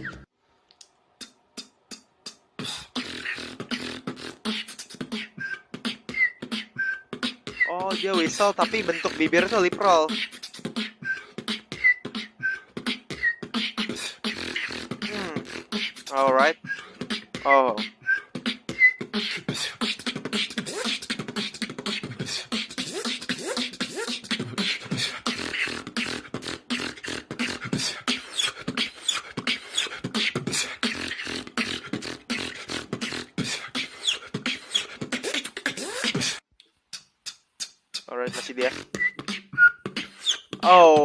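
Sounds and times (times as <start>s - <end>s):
beatboxing mouth percussion: 0.0s - 41.0s
mouth clicks: 0.0s - 41.0s.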